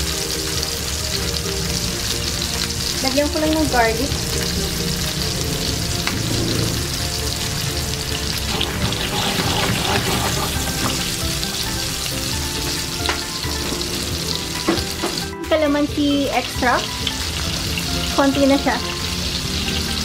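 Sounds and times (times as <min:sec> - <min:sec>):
fish sizzling in a frying pan: 0:00.0 - 0:20.0.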